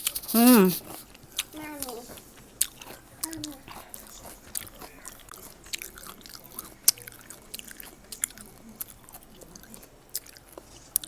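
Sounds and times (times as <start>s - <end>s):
person chewing fruit: 0.0s - 11.0s.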